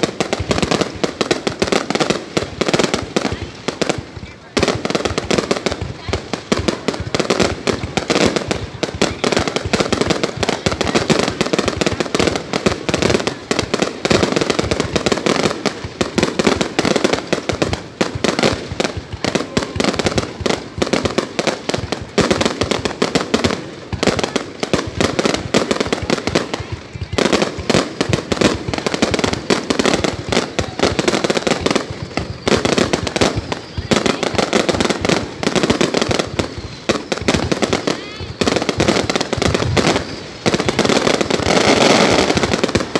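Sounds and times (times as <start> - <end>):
fireworks bangs and crackles: 0.0 - 42.9
voices: 0.0 - 42.9.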